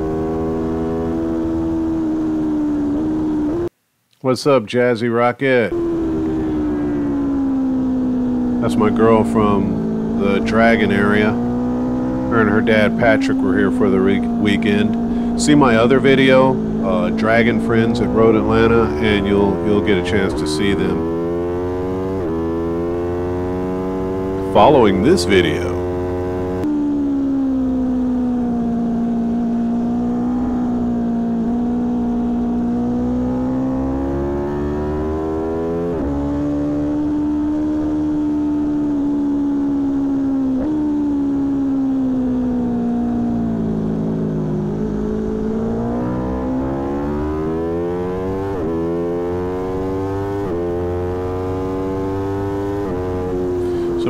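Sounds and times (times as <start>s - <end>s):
motorcycle engine accelerating: 0.0s - 3.7s, 5.6s - 54.0s.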